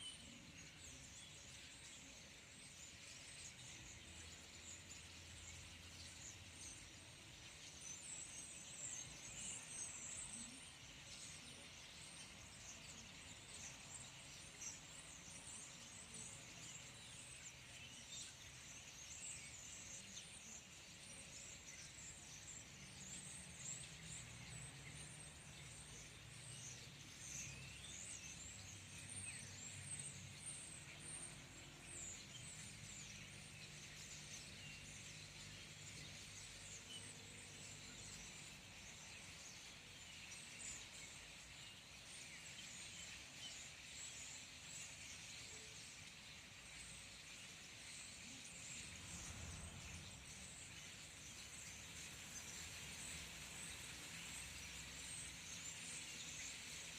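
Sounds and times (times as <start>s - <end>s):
flock of small birds calling: 0.0s - 56.9s.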